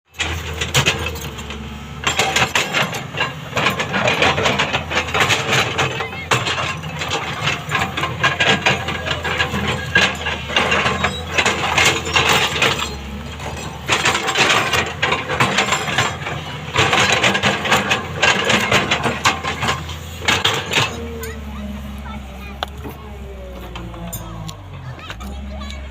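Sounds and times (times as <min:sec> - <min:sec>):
diesel engine running: 0:00.1 - 0:25.9
stones and earth clattering: 0:00.2 - 0:21.3.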